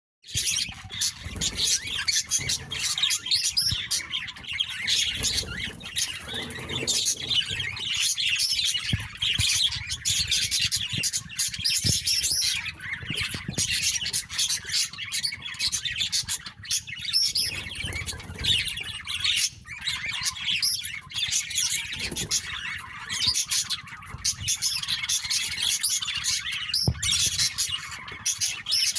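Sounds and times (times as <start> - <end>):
small birds chirping and squawking: 0.2 - 28.9.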